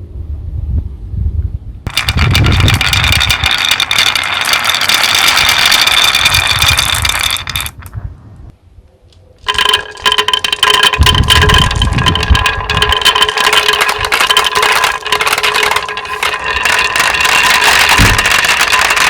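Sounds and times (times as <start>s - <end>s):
mechanical rattling and clicking: 1.9s - 8.0s, 9.5s - 19.0s
steady whirring: 1.9s - 8.0s, 9.5s - 19.0s.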